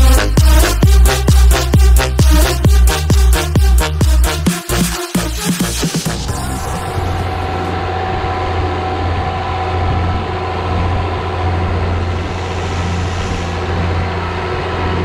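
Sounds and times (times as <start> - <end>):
tractor diesel engine running: 0.0 - 4.5, 6.0 - 15.0.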